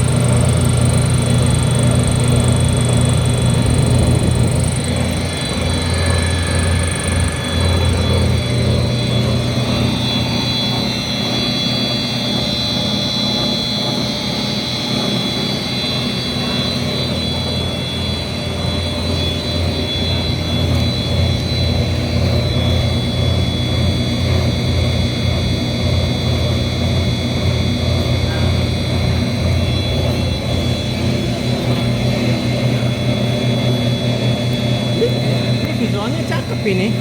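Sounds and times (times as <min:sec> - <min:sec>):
extruder machine humming: 0:00.0 - 0:37.0
high whine: 0:00.0 - 0:37.0.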